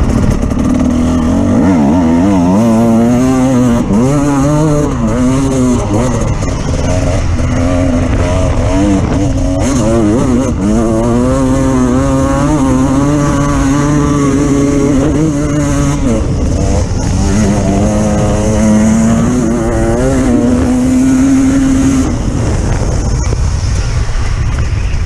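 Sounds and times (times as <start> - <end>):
off-road vehicle engine revving: 0.0 - 23.4.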